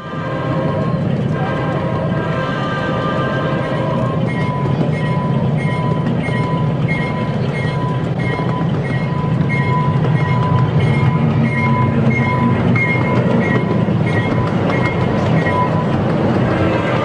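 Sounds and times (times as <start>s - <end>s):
miniature train rumbling on track: 0.0s - 17.0s.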